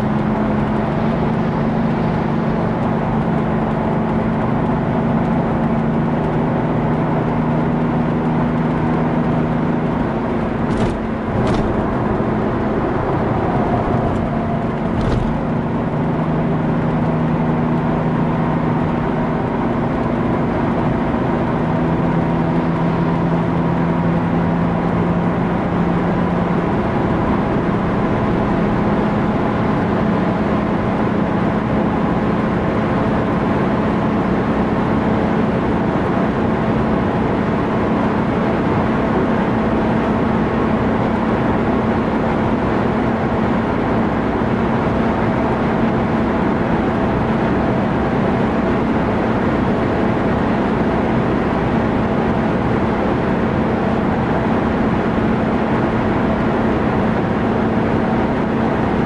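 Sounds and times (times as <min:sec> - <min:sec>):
diesel engine drone: 0:00.0 - 0:59.0
road and wind noise: 0:00.0 - 0:59.0.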